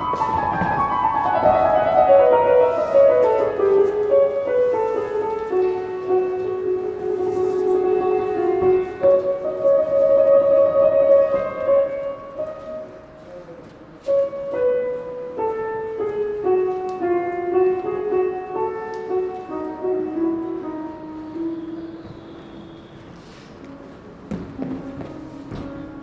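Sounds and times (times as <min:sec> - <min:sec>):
slow instrumental music: 0:00.0 - 0:13.4, 0:14.0 - 0:26.0.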